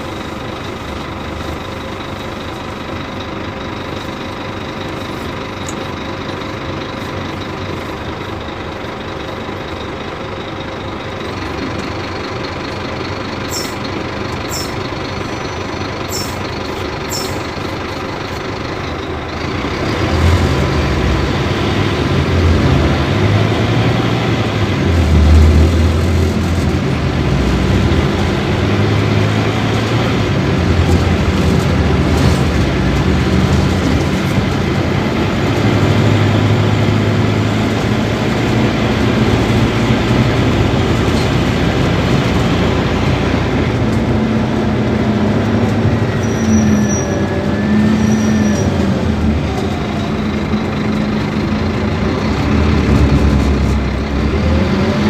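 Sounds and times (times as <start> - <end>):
bus diesel engine accelerating: 0.0 - 55.0.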